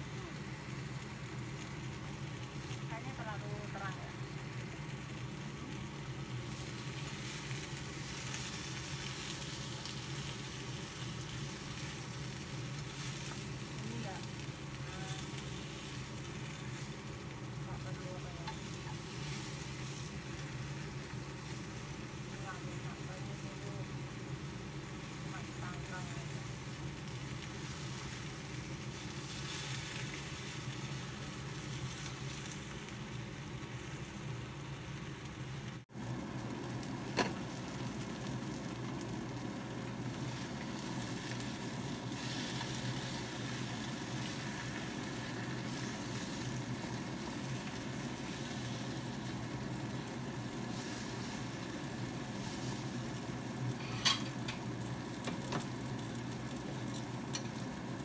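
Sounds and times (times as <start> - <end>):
food sizzling in a wok: 0.0 - 58.0.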